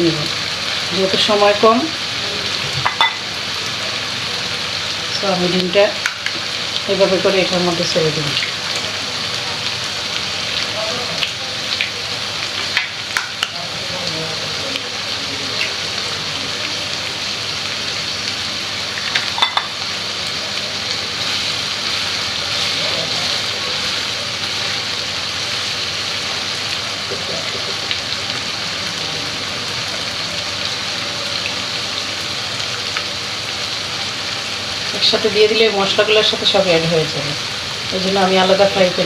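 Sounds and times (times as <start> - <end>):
egg sizzling in hot oil: 0.0 - 39.0.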